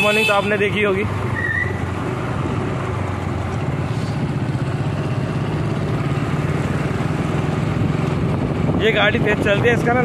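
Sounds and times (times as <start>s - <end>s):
road noise: 0.0s - 10.0s
scooter and motorcycle engines: 0.0s - 10.0s.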